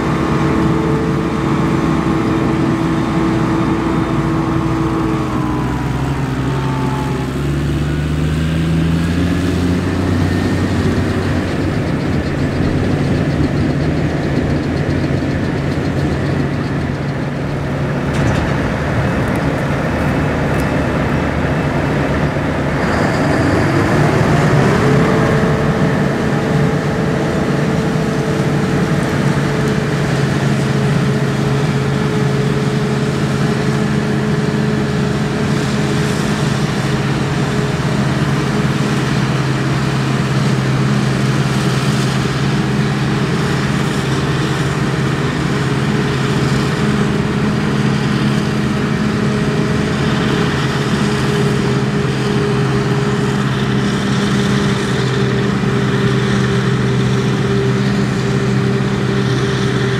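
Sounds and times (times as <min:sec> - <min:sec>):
tractor engine: 0:00.0 - 0:59.9.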